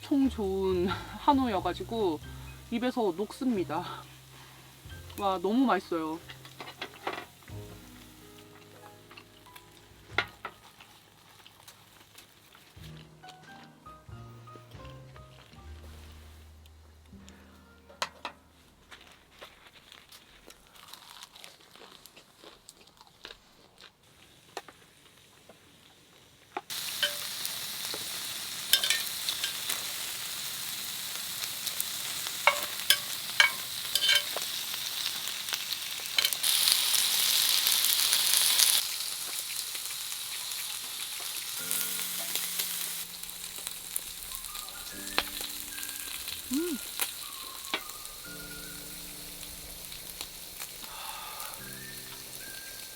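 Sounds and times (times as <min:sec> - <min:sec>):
beef sizzling: 0:00.0 - 0:17.2, 0:24.1 - 0:52.9.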